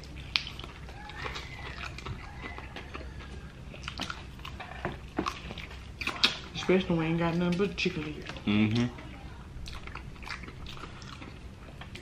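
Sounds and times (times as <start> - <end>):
chewing crispy fried chicken: 0.0 - 12.0.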